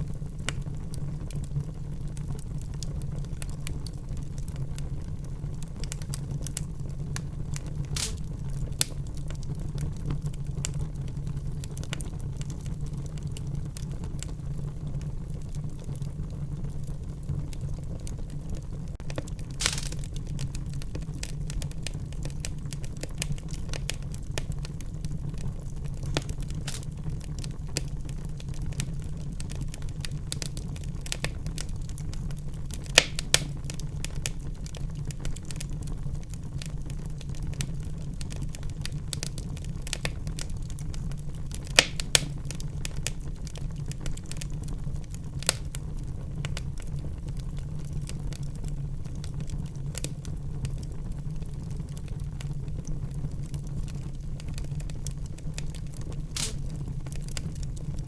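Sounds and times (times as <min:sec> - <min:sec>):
fireplace fire crackling: 0:00.0 - 0:58.0.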